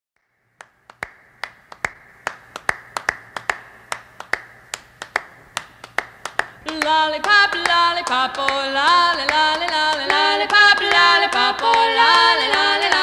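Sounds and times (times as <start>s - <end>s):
finger snaps keeping a beat: 0.6s - 11.8s.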